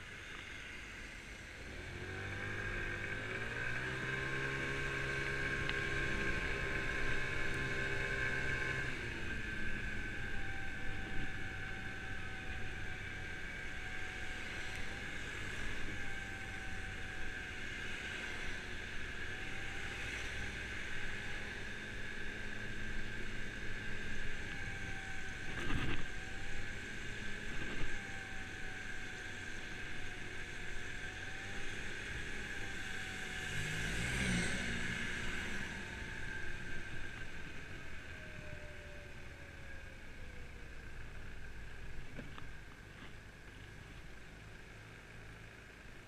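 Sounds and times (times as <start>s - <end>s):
scooter engine running: 0.0s - 46.0s.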